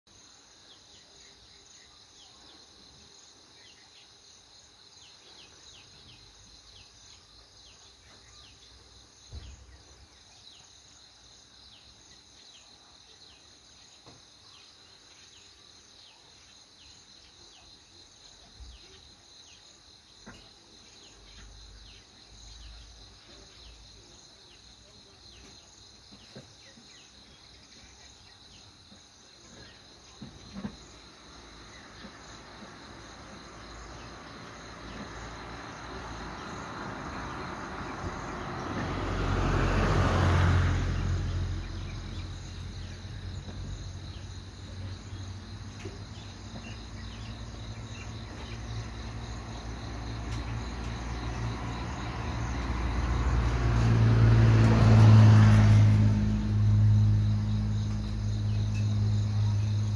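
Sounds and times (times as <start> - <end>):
high-pitched insect chorus: 0.1 - 59.9.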